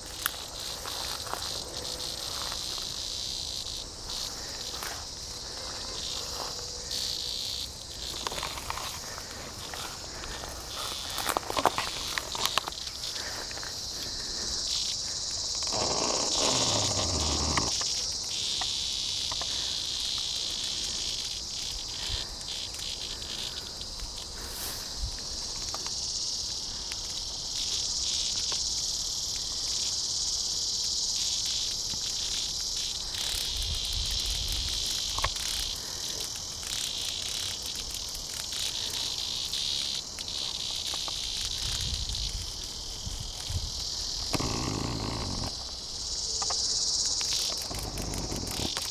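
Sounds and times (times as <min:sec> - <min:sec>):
cicadas buzzing: 0:00.0 - 0:48.9.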